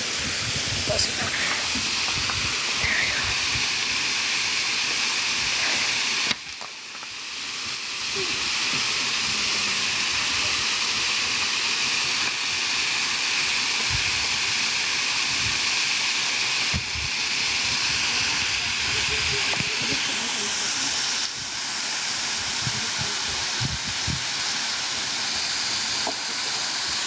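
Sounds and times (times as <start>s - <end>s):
waterfall rushing water: 0.0s - 27.0s.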